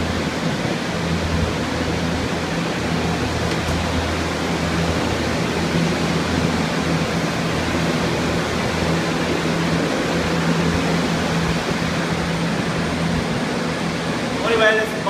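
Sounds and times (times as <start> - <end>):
low motor hum: 0.0 - 15.0
rushing air from fans: 0.0 - 15.0.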